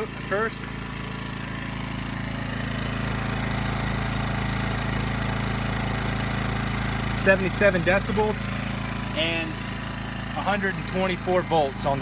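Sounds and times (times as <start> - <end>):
generator running: 0.0 - 12.0.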